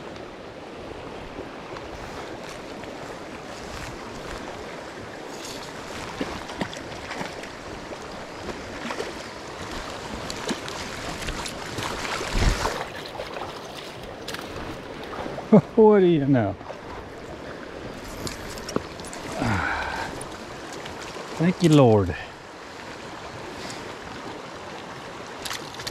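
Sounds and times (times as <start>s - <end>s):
stream flowing over stones: 0.0s - 25.9s.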